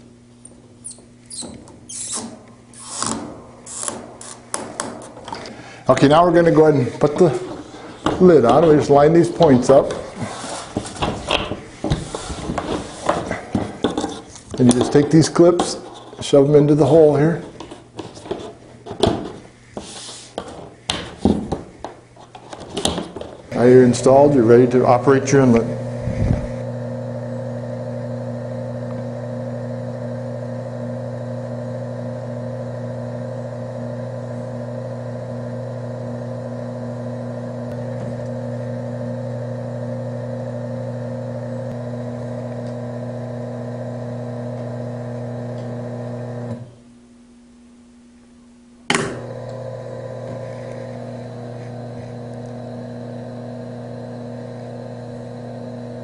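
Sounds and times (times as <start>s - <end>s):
electric motor hum: 0.8s - 20.6s, 22.8s - 46.8s, 48.9s - 56.0s.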